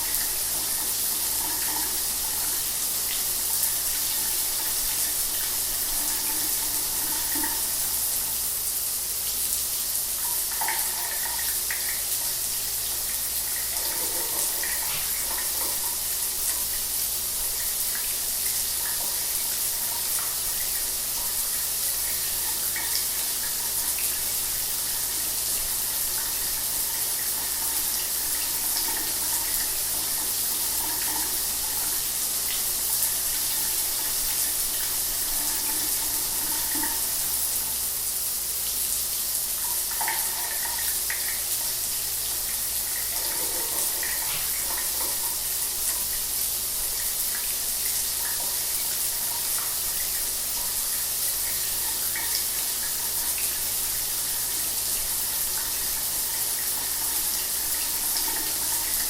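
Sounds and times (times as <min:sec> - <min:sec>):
shower water running: 0:00.0 - 0:59.0.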